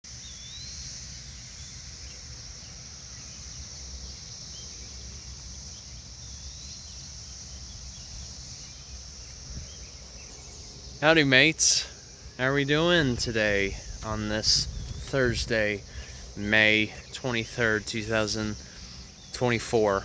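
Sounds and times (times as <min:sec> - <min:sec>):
cicadas buzzing in chorus: 0:00.0 - 0:20.0
faint bird chirps: 0:00.1 - 0:20.0.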